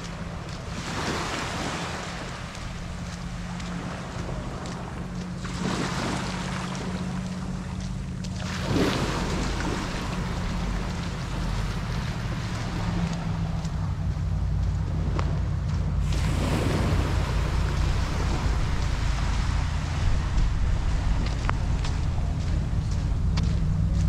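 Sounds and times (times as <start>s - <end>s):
small waves breaking on beach: 0.0s - 13.9s, 16.0s - 23.5s
steady low hum: 0.0s - 24.0s.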